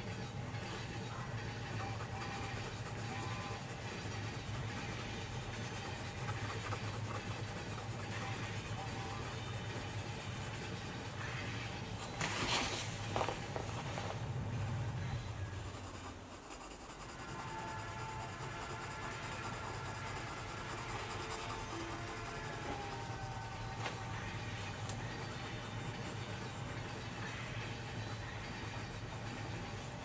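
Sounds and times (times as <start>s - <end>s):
pencil scratching on paper: 0.0s - 30.0s.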